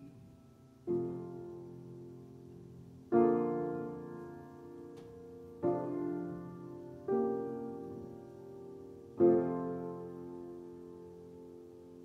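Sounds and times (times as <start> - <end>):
grand piano chords: 0.0 - 12.0.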